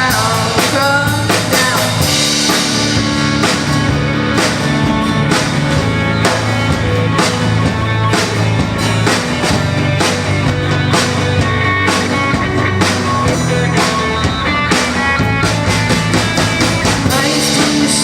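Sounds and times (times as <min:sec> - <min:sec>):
bass: 0:00.0 - 0:18.0
drum kit beat: 0:00.0 - 0:18.0
guitar: 0:00.0 - 0:18.0.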